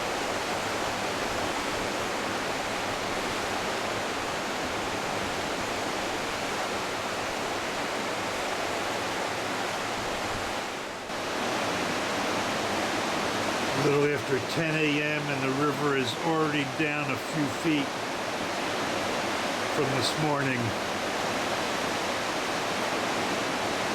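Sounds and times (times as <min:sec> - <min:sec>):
river rushing: 0:00.0 - 0:23.9.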